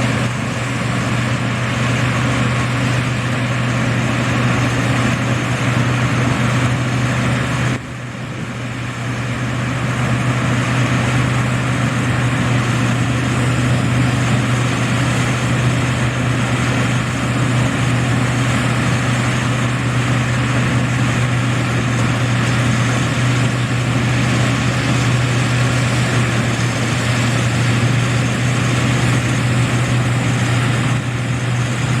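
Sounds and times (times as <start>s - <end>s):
harvester engine humming: 0.0s - 32.0s.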